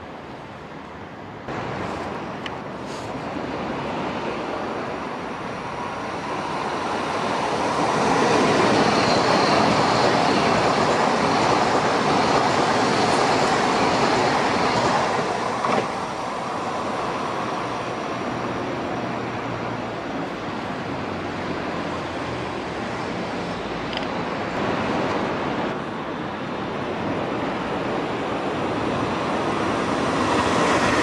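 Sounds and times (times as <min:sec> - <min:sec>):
train wheels rushing on rail: 0:01.4 - 0:31.0.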